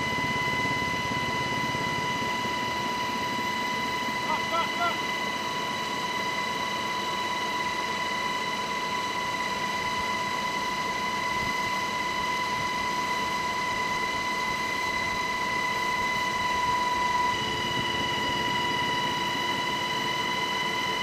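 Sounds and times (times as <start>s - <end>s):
helicopter rushing noise: 0.0s - 21.0s
high-pitched whine: 0.0s - 21.0s.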